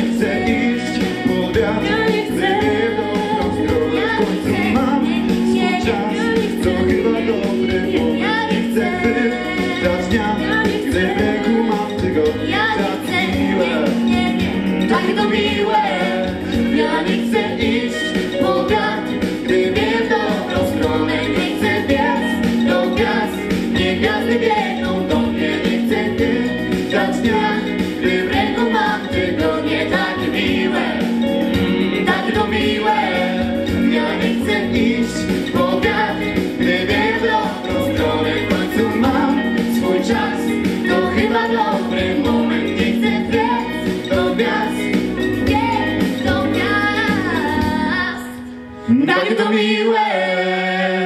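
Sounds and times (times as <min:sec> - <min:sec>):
backing track: 0:00.0 - 0:51.0
mixed voices singing: 0:00.0 - 0:51.0.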